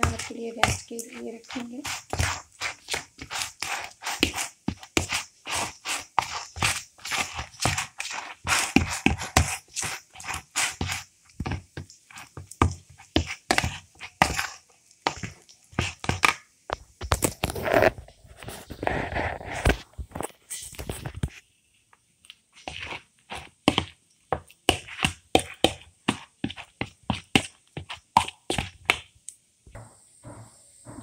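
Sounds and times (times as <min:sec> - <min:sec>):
hands kneading dough in bowl: 0:00.0 - 0:21.5, 0:22.2 - 0:29.2.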